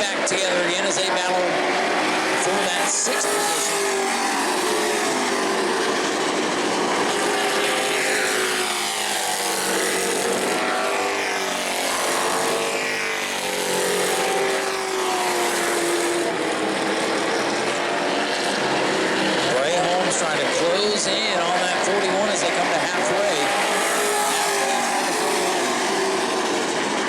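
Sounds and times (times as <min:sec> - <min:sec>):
race truck engines passing: 0:00.0 - 0:27.0.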